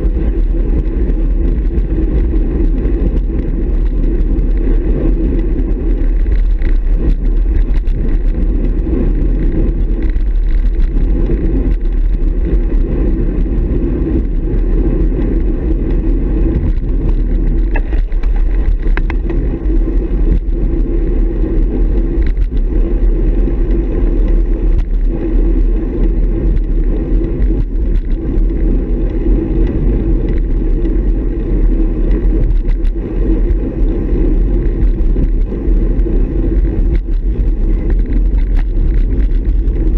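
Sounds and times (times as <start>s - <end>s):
tyre noise on asphalt: 0.0s - 39.9s
wind buffeting microphone: 0.0s - 39.9s.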